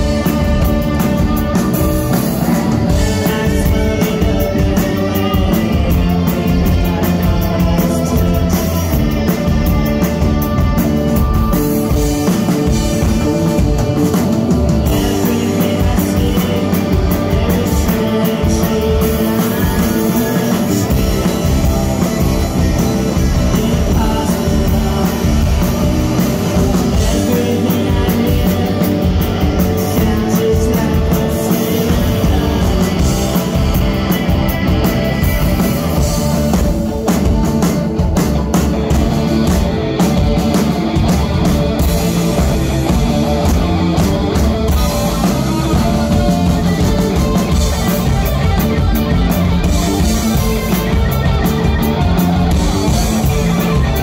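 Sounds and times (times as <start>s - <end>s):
drums: 0.0s - 54.0s
rock band playing loudly: 0.0s - 54.0s.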